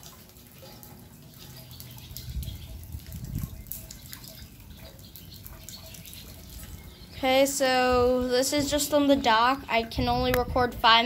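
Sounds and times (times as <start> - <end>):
floodwater sloshing and dripping: 0.0 - 11.0
low rumbling pushes of water: 0.0 - 11.0.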